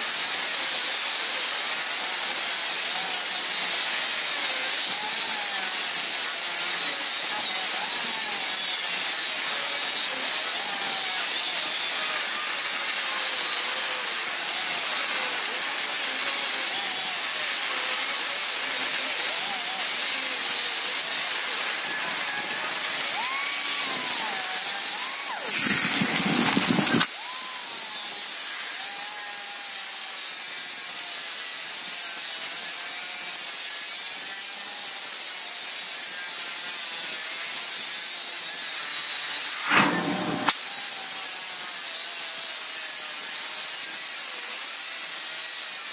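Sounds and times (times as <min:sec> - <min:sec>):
grinder grinding metal: 0:00.0 - 0:45.9.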